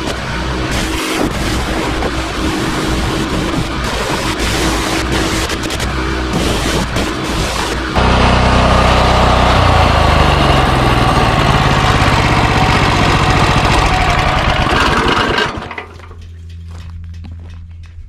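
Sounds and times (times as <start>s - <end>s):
pressure washer engine drone: 0.0s - 16.5s.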